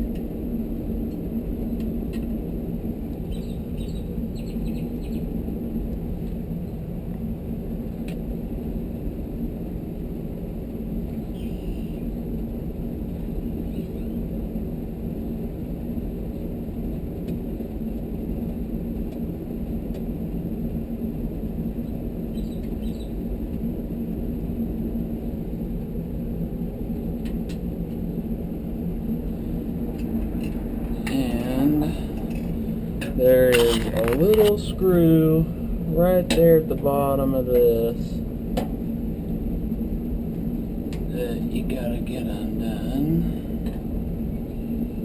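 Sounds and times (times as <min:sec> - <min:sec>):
low machinery hum: 0:00.0 - 0:45.0.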